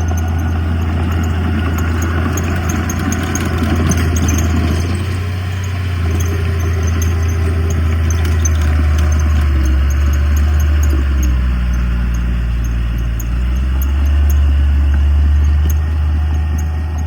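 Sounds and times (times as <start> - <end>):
diesel engine humming: 0.0 - 17.0
high-pitched ticks: 0.0 - 17.0.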